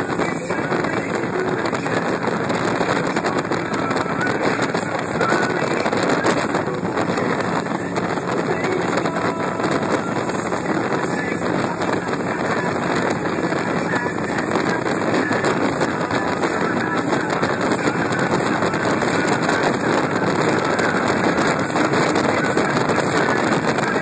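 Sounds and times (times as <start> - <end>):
hull spray: 0.0 - 24.0
powerboat engines roaring: 0.0 - 24.0
wind: 0.0 - 24.0.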